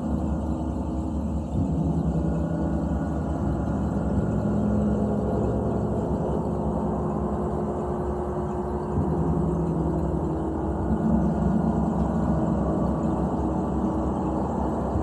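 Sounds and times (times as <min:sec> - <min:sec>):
low gong drone: 0:00.0 - 0:15.0.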